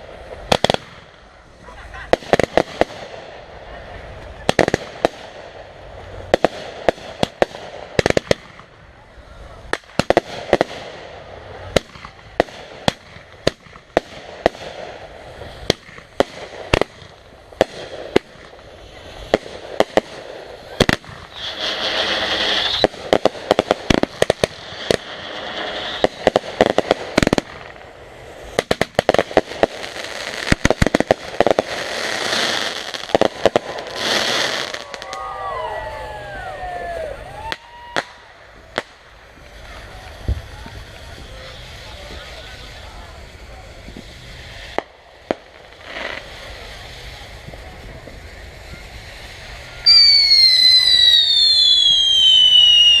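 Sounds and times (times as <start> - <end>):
fireworks bangs: 0.0 - 53.0
fireworks hissing crackle: 0.0 - 53.0.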